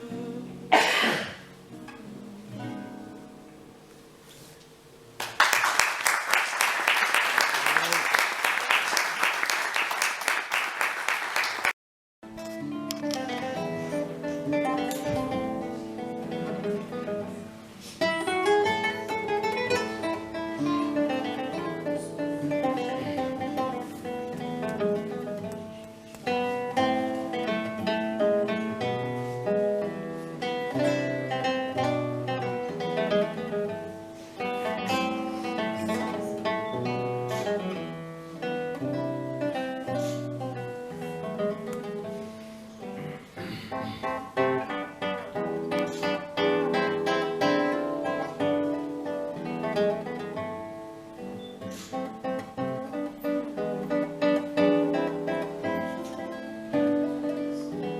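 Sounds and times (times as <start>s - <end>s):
solo guitar plucked melody: 0.0s - 4.2s, 12.2s - 57.9s.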